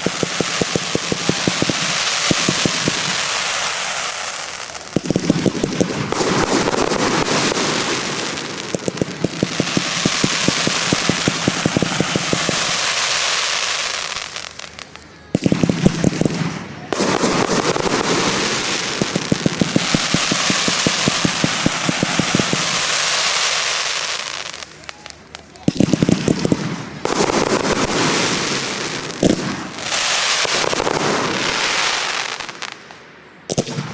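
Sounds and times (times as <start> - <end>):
fireworks bangs: 0.0 - 33.9
fireworks crackling and hissing: 0.0 - 33.9.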